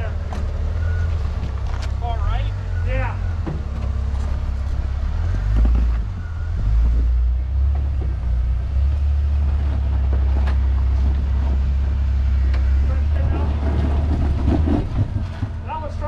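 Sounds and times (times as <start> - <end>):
engine and drivetrain rumble: 0.0 - 16.0.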